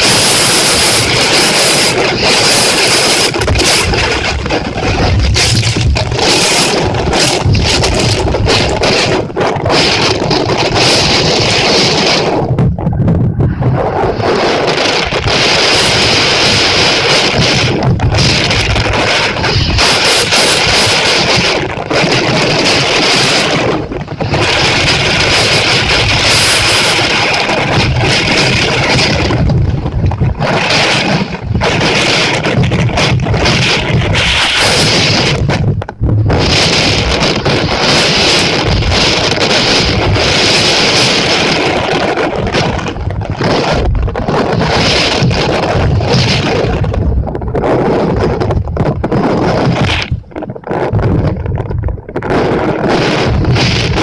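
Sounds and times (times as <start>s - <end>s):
heavy rain: 0.0s - 54.0s
wind buffeting microphone: 0.0s - 54.0s.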